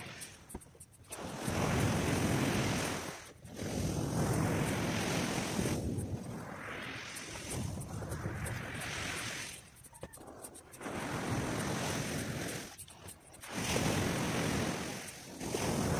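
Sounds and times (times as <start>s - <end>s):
rushing wind: 0.0s - 15.9s
wind buffeting microphone: 1.1s - 15.9s.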